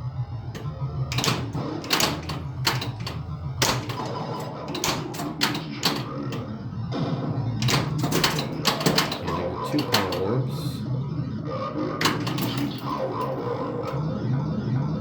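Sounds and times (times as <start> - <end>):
pinball machine clacks: 0.3 - 10.8, 11.8 - 14.3.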